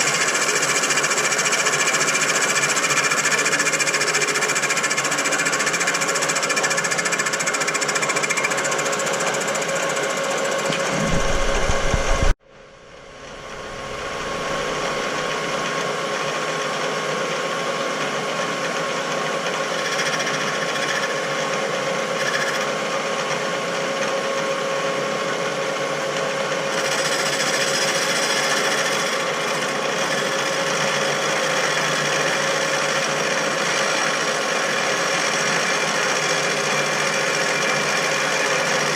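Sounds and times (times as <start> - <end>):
machine tool boring metal: 0.0 - 12.3, 18.4 - 38.9.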